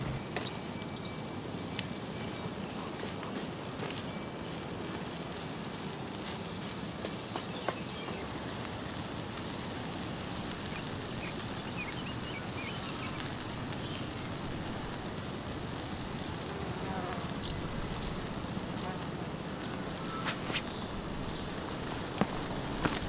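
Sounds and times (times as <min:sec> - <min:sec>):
fire crackles: 0:00.0 - 0:23.0
hiss of cooking over fire: 0:00.0 - 0:23.0.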